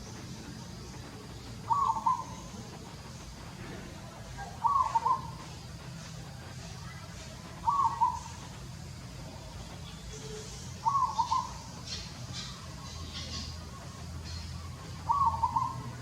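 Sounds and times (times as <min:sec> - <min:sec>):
bird calling: 0:00.0 - 0:16.0
low background hum: 0:00.0 - 0:16.0.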